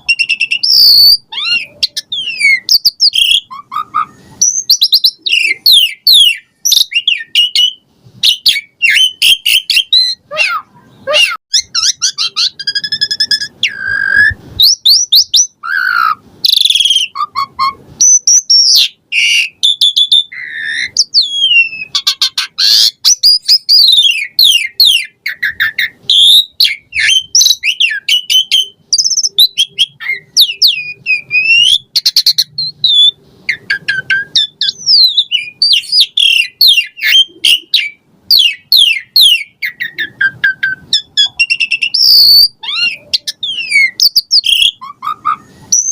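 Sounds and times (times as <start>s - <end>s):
starling song with whistles and chirps: 0.0s - 45.9s.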